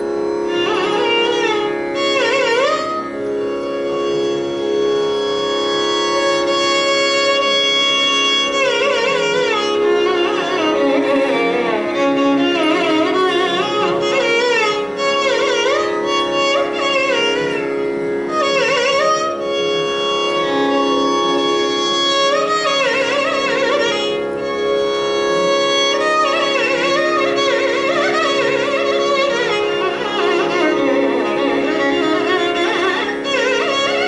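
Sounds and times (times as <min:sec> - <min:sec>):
steady drone: 0:00.0 - 0:34.0
violin melody with ornaments: 0:00.0 - 0:34.0.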